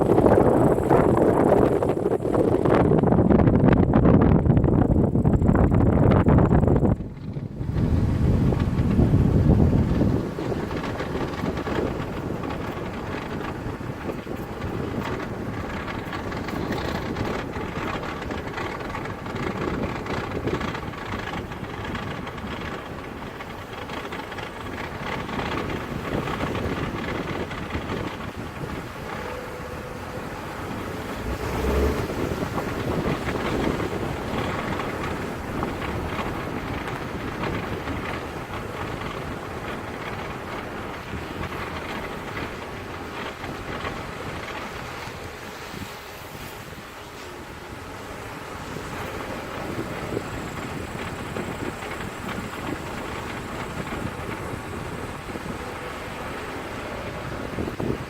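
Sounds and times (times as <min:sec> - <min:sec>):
car road noise: 0:00.0 - 0:58.0.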